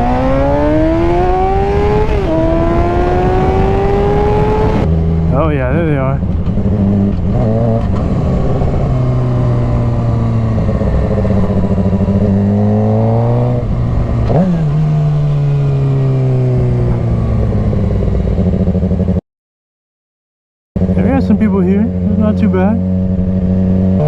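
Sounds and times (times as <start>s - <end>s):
motorcycle engine accelerating: 0.0s - 19.2s, 20.8s - 24.0s.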